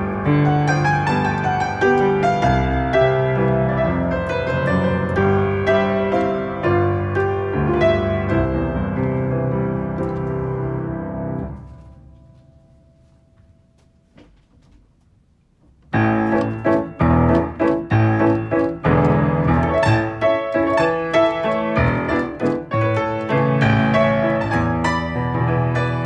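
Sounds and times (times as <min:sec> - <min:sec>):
solo piano music: 0:00.0 - 0:14.1, 0:15.8 - 0:26.0.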